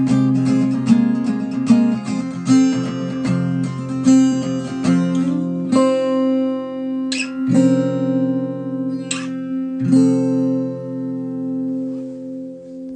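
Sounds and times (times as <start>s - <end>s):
acoustic guitar strumming chords: 0.0s - 12.9s.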